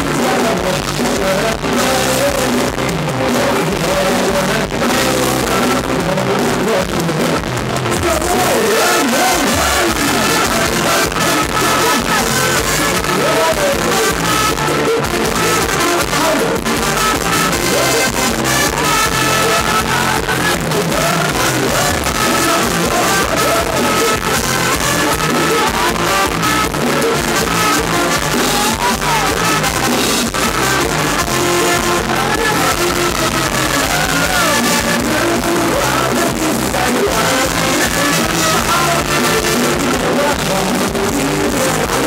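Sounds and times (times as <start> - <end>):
live band dance music: 0.0 - 42.0
person singing: 0.0 - 42.0.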